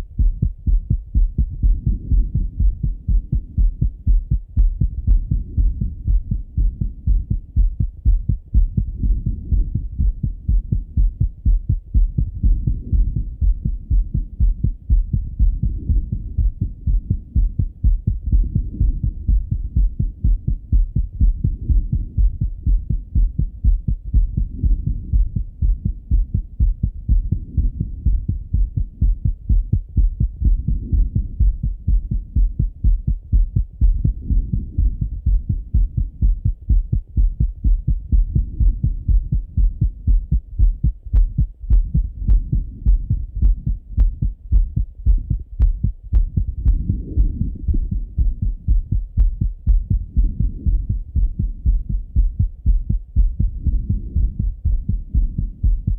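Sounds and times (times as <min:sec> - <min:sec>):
heartbeat through stethoscope: 0:00.0 - 0:55.9.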